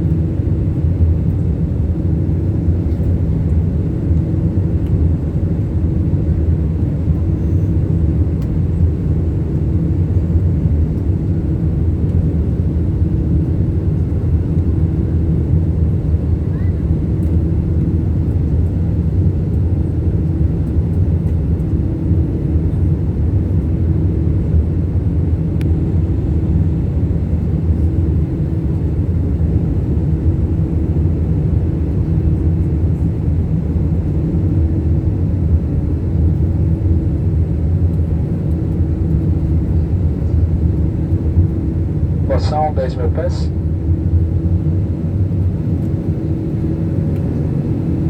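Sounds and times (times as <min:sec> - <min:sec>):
airliner engines droning: 0:00.0 - 0:48.0.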